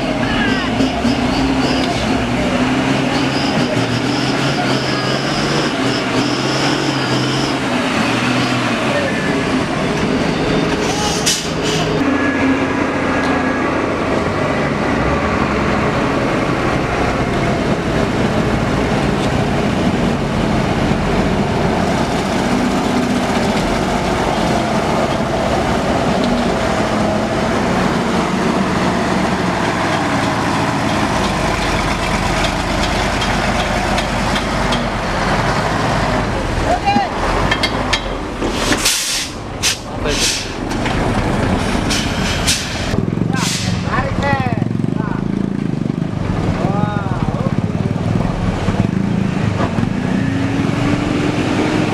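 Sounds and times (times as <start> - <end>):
heavy truck engine running: 0.0 - 51.9.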